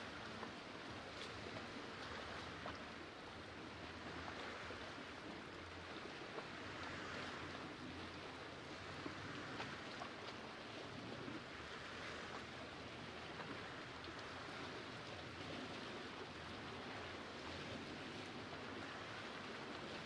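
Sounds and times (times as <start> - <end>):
small splashes and ticks: 0.0 - 20.0
waves lapping against boulders: 0.0 - 20.0.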